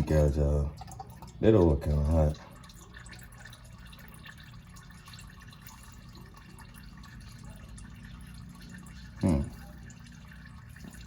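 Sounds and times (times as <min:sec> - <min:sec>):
low steady hum: 0:00.0 - 0:11.0
oil dripping and trickling: 0:00.0 - 0:11.0.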